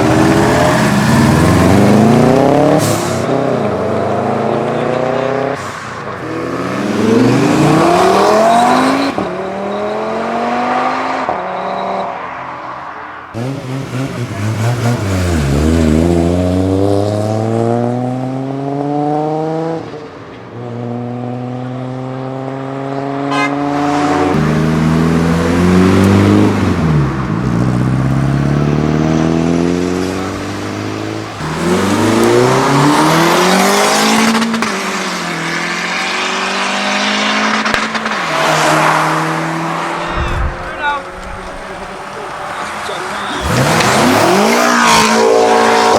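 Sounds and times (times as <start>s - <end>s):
cars accelerating hard: 0.0s - 45.9s.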